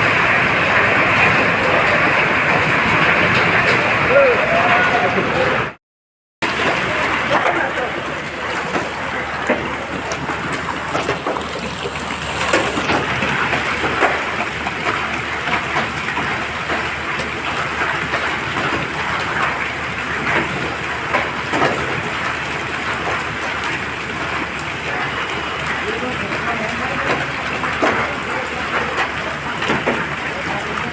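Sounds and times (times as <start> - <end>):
heavy rain on hard surfaces: 0.0 - 5.8, 6.4 - 30.9.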